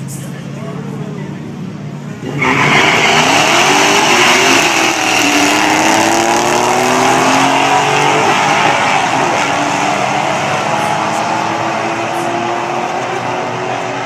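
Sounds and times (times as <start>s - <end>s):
road and wind noise: 0.0s - 14.0s
vehicle engine accelerating hard: 2.1s - 14.0s.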